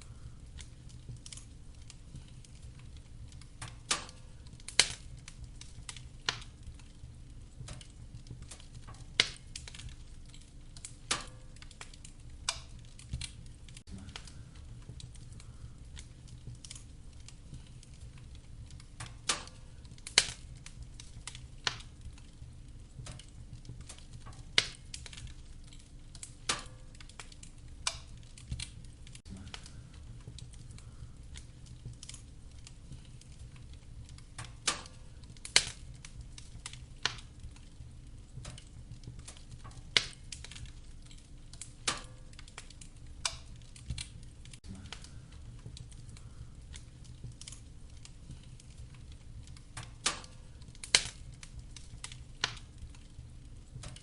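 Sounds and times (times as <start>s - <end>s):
firewood crackling in fireplace: 0.0s - 54.0s.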